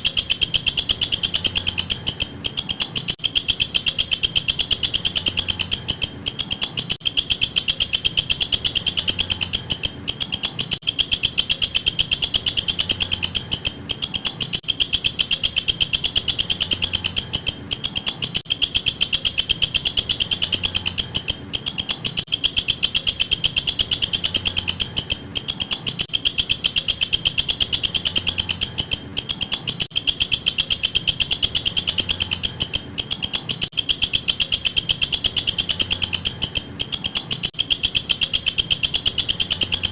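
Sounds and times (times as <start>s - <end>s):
katydid chirring: 0.0s - 39.9s.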